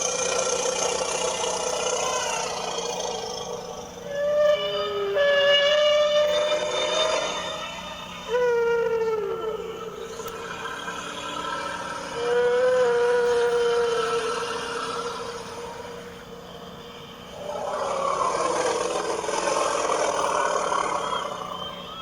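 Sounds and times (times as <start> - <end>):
long pitched creature call: 0.0 - 22.0
rough noisy creature call: 0.0 - 22.0.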